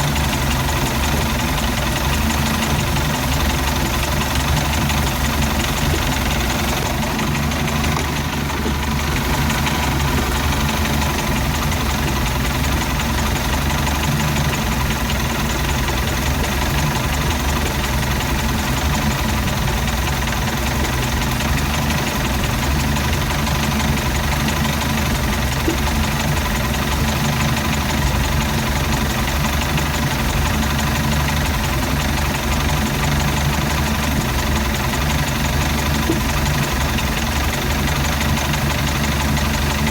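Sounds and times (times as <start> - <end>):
boat engine idling roughly: 0.0 - 39.9.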